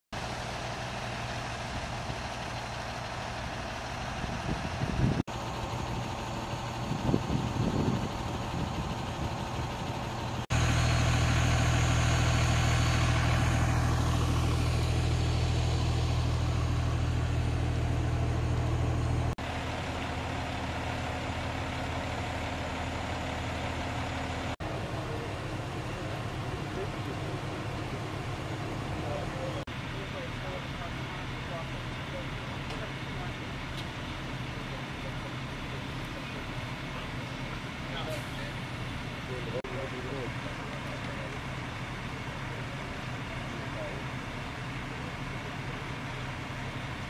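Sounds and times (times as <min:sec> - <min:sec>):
diesel engines idling: 0:00.2 - 0:47.0.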